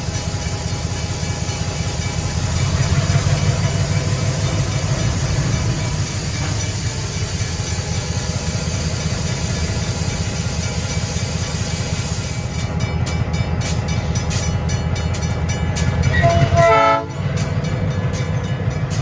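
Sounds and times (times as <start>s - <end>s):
diesel locomotive engine rumbling: 0.0s - 19.0s.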